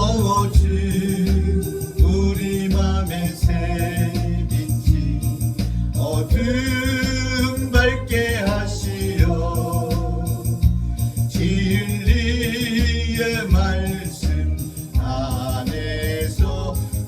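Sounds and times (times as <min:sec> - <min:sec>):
backing track with bass: 0:00.0 - 0:17.0
person singing gospel: 0:00.0 - 0:17.0
shaker-like rhythm: 0:00.0 - 0:17.0.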